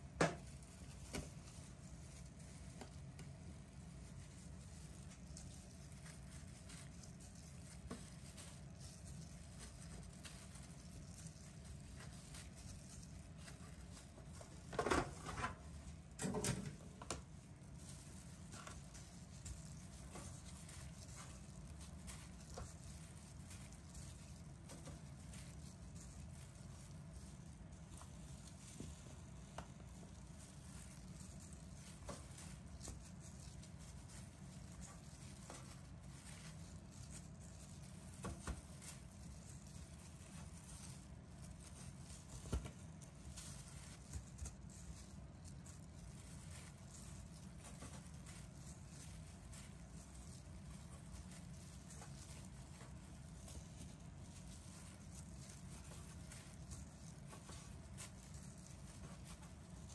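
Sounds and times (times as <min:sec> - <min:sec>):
handling noises: 0:00.0 - 0:59.9
low steady hum: 0:00.0 - 0:59.9.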